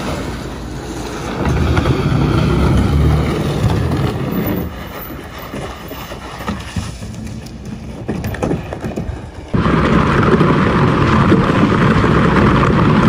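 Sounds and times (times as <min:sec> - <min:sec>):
plastic hull scraping on concrete: 0:00.0 - 0:13.0
truck engine rumble: 0:00.0 - 0:13.0.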